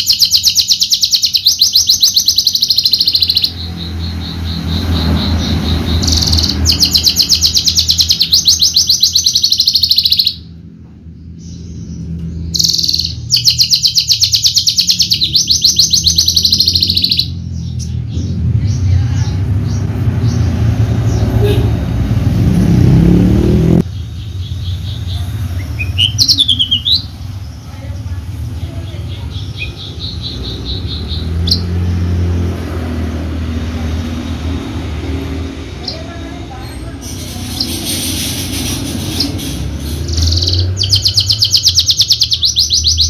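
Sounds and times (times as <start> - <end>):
bird singing rapid high trills: 0.0 - 21.6, 23.9 - 32.4, 35.7 - 43.0.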